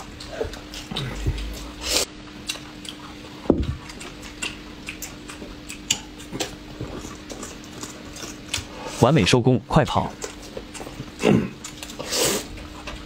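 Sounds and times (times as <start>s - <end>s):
chewing: 0.0s - 8.7s, 10.2s - 13.0s
faint steady hum: 0.0s - 13.0s.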